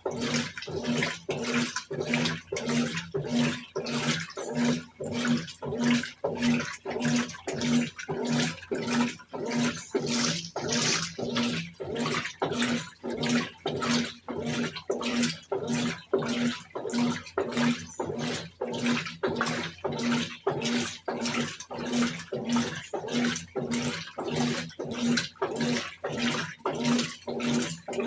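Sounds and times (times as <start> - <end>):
washing machine motor hum: 0.0 - 28.0
water sloshing in washing machine: 0.0 - 28.0.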